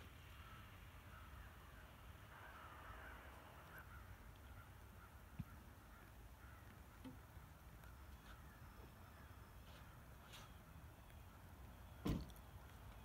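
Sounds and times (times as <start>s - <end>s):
distant bird calls: 0.3s - 13.0s.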